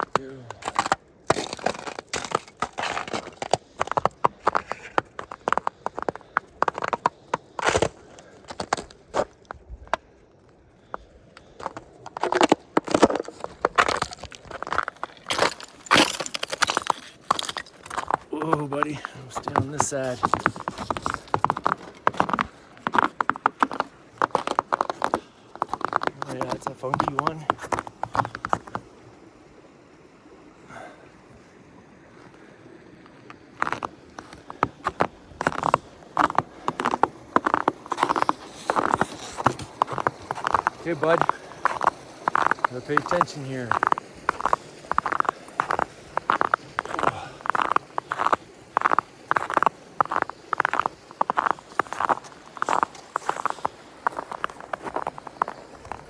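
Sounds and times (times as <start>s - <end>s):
footsteps crunching on icy snow: 0.0s - 28.8s, 32.1s - 56.0s.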